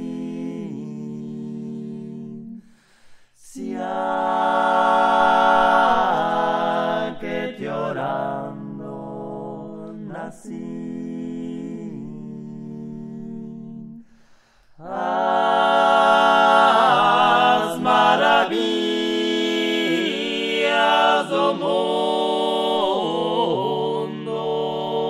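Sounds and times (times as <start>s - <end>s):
male vocal trio singing a cappella: 0.0s - 25.0s.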